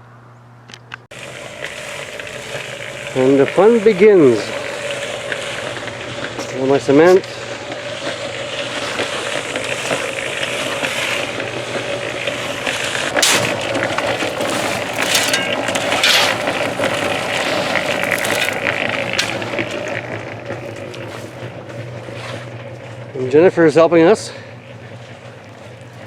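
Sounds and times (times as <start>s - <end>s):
concrete mixer motor hum: 0.7s - 26.0s
concrete churning: 1.1s - 26.0s.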